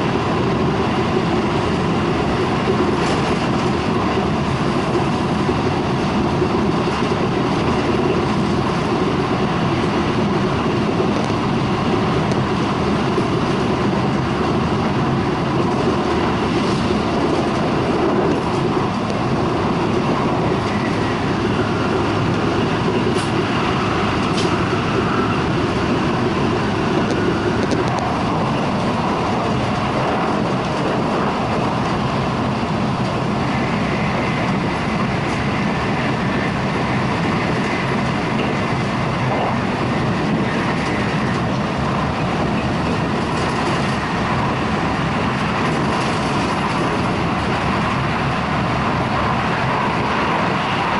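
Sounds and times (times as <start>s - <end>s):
train rumble from inside carriage: 0.0s - 50.9s.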